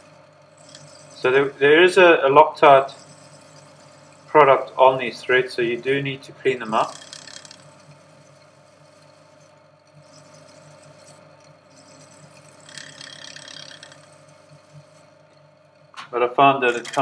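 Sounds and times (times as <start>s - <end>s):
wire brush scratching metal: 0.0s - 15.9s, 16.6s - 17.0s.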